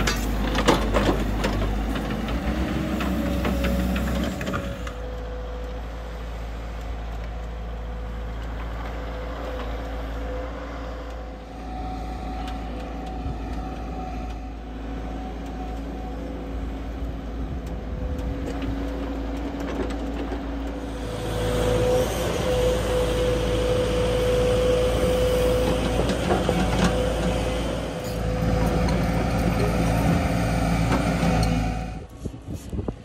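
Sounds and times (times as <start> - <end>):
excavator diesel engine whining: 0.0 - 33.0.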